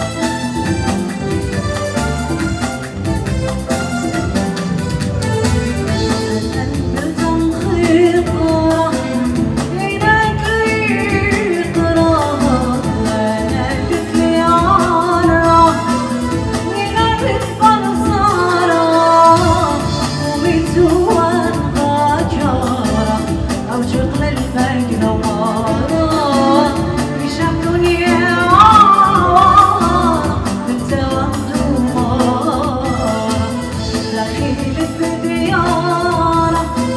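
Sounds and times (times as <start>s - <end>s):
drum kit: 0.0s - 36.9s
electronic keyboards: 0.0s - 36.9s
woman singing into a microphone: 5.8s - 36.9s.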